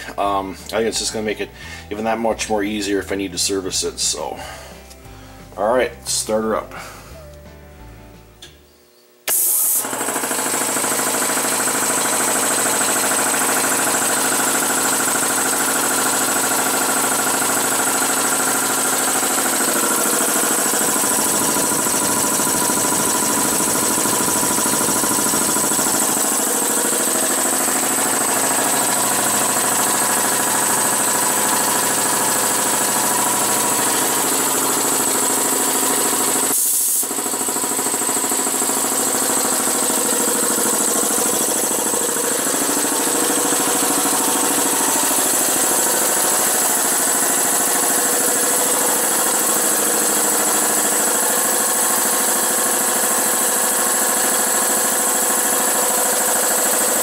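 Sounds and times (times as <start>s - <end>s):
electric air compressor running: 0.0s - 0.4s, 4.2s - 4.9s, 8.8s - 57.0s.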